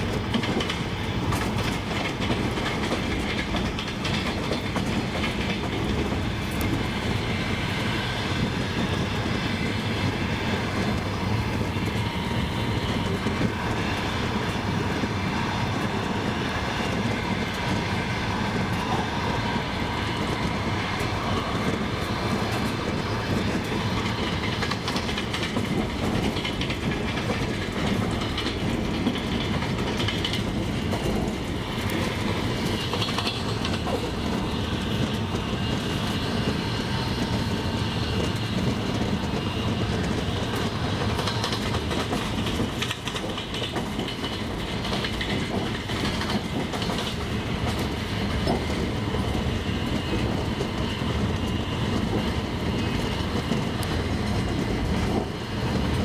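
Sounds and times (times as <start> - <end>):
train rumble: 0.0 - 56.0
train wheels clattering on rail joints: 0.0 - 56.0.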